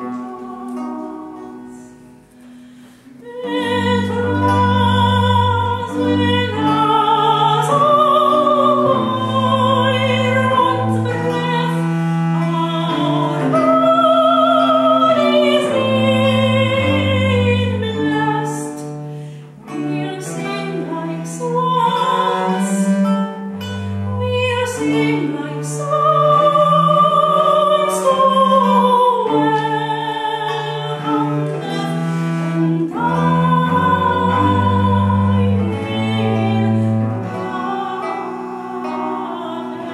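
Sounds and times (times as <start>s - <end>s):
soprano singing with vibrato: 0.0s - 2.2s, 3.2s - 18.9s, 19.6s - 23.4s, 24.0s - 39.9s
plucked lute: 0.0s - 39.9s
bowed viola da gamba: 3.0s - 39.9s.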